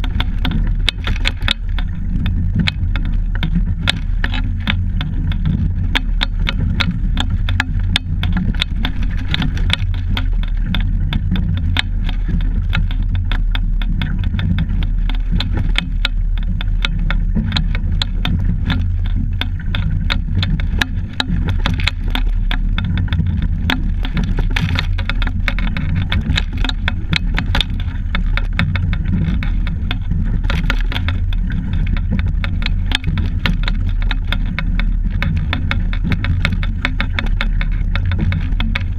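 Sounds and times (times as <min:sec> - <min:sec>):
wind on microphone: 0:00.0 - 0:38.9.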